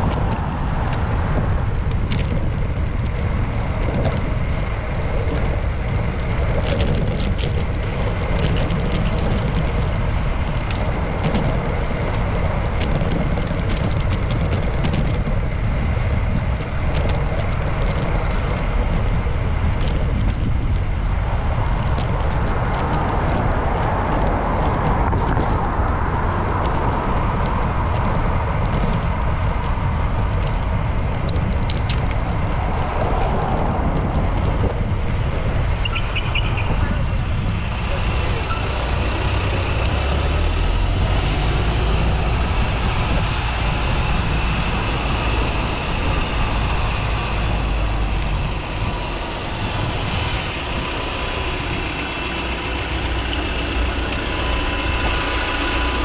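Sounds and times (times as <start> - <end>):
bicycle clicks and rattles: 0.0 - 56.0
motor traffic: 0.0 - 56.0
road rumble: 0.0 - 56.0
wind noise: 0.0 - 56.0.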